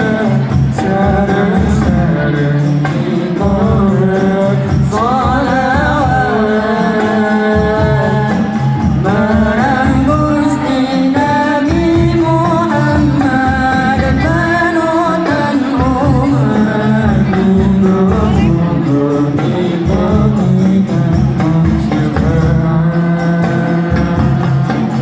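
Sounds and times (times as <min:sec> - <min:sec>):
rhythmic percussion beat: 0:00.0 - 0:25.0
young men singing together: 0:00.0 - 0:25.0.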